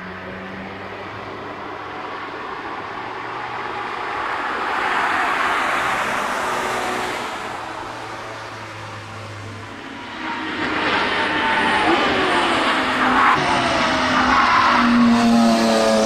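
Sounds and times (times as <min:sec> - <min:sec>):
car passing by: 0:01.0 - 0:16.0.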